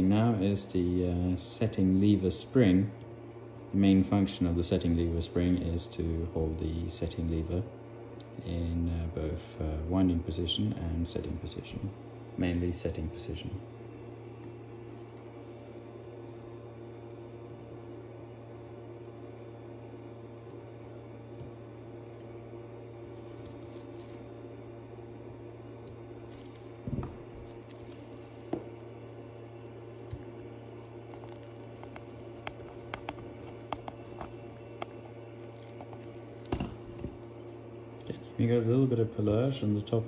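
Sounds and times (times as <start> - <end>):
electrical hum: 0.0 - 40.0.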